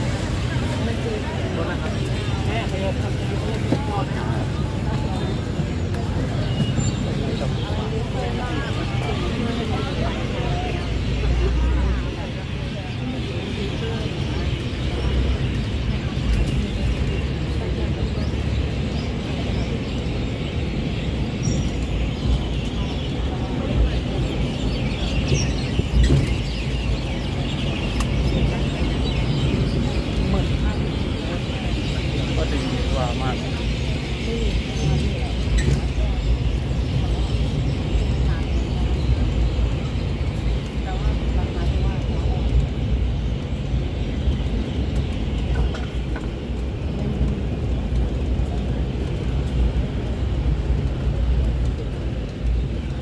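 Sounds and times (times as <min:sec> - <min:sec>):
many birds chattering: 0:00.0 - 0:53.0
vehicle rumble: 0:00.0 - 0:53.0.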